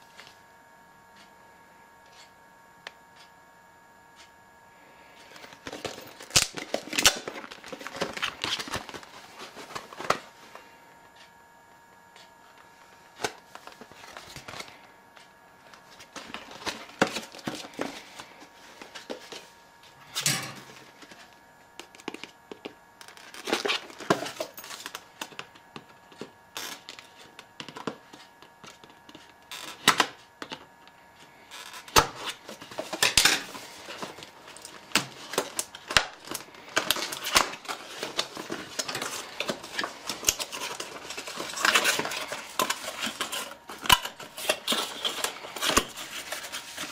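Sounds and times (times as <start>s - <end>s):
cardboard and paper rustling: 5.2s - 11.3s, 12.2s - 30.6s, 31.2s - 46.9s.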